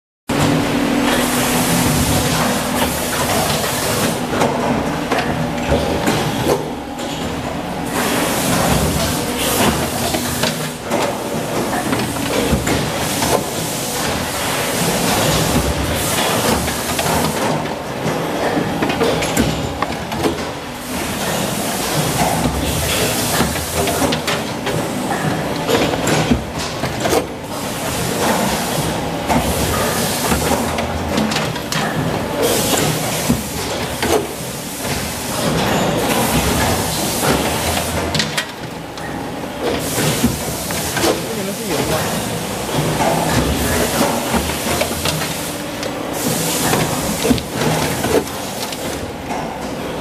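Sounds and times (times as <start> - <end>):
die-casting machine humming: 0.3 - 50.0.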